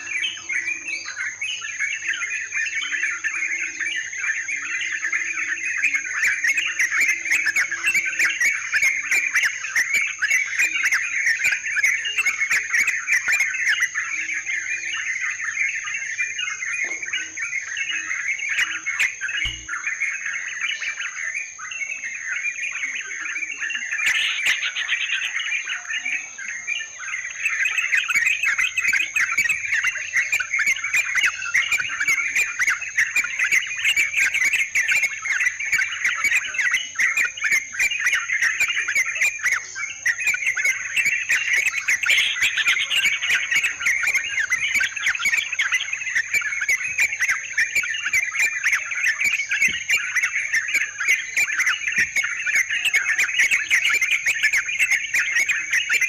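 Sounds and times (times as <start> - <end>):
birds chattering and calling: 0.0 - 56.0.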